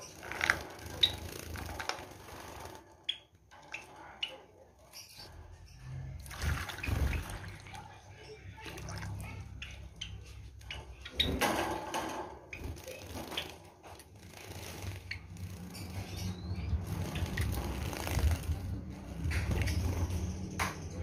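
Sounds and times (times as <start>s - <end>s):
birds hopping clicks and taps: 0.0s - 21.0s.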